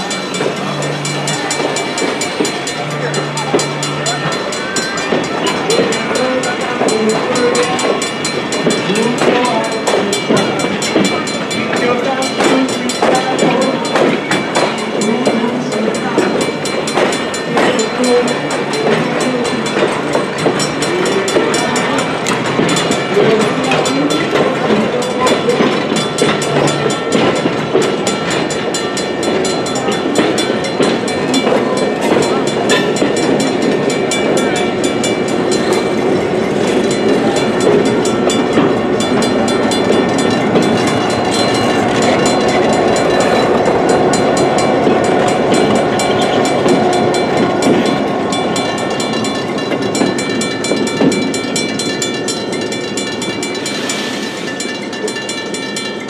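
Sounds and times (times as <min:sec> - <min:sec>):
train wheels rumbling and clicking: 0:00.0 - 0:56.0.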